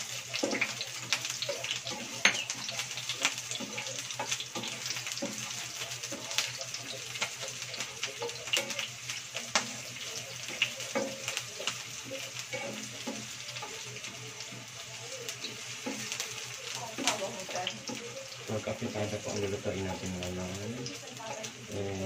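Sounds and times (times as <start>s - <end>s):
spatula stirring in pan: 0.0s - 21.8s
food sizzling in frying pan: 0.0s - 22.0s.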